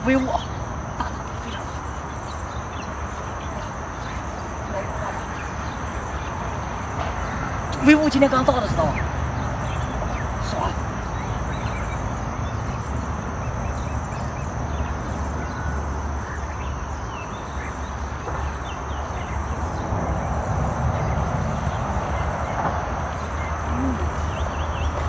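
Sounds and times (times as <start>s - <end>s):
faint bird chirps: 0.0s - 25.0s
wind: 0.0s - 25.0s.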